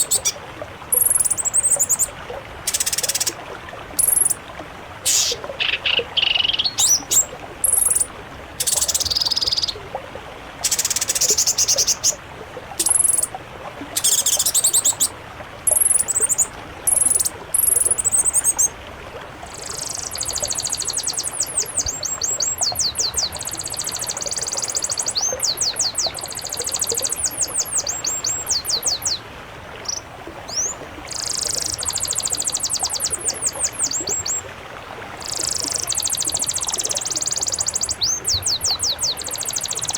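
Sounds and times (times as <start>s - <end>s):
songbirds chattering and trilling: 0.0s - 2.1s, 2.7s - 3.4s, 4.0s - 4.4s, 5.1s - 9.8s, 10.6s - 12.2s, 12.8s - 13.3s, 14.0s - 15.1s, 15.7s - 18.7s, 19.4s - 34.4s, 35.2s - 39.9s.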